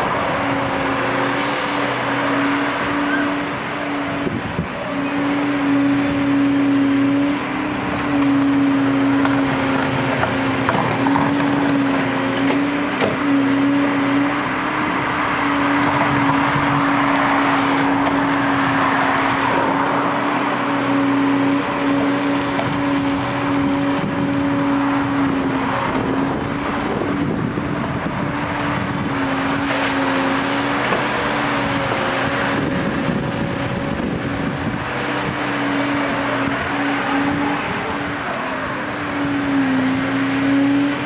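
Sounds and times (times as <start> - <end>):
excavator engine and hydraulics: 0.0 - 41.0.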